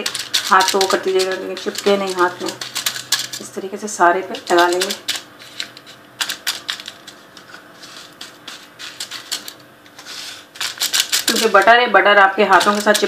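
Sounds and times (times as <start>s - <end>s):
fingers patting cookie crumbs: 0.0s - 3.5s, 4.3s - 10.0s, 10.6s - 11.8s, 12.4s - 13.0s.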